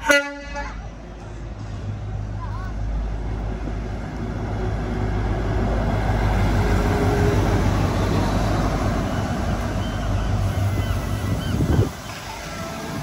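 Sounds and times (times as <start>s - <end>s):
train engine drone: 0.0s - 13.0s
train wheel and rail noise: 0.0s - 13.0s.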